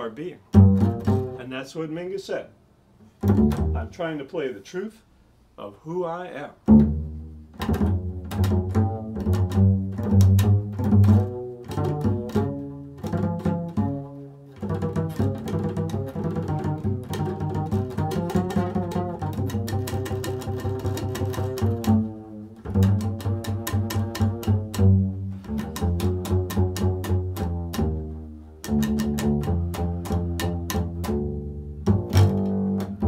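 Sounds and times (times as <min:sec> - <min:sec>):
double bass plucked notes: 0:00.0 - 0:02.4, 0:03.1 - 0:04.3, 0:06.6 - 0:33.0.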